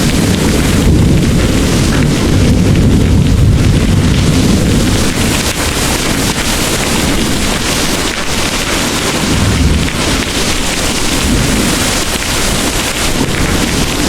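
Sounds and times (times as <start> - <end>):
distant thunder rumbling: 0.0 - 14.0
heavy rain pouring: 0.0 - 14.0.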